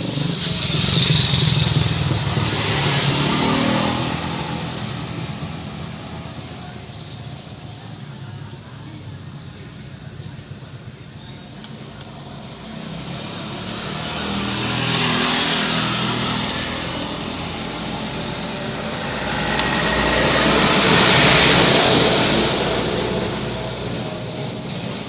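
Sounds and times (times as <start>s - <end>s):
road vehicles passing: 0.0s - 25.0s.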